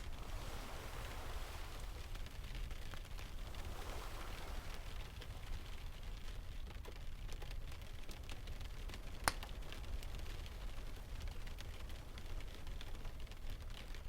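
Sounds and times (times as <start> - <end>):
fire popping: 0.0 - 14.0
low steady rumble: 0.0 - 14.0
wood fire crackling: 0.0 - 14.0.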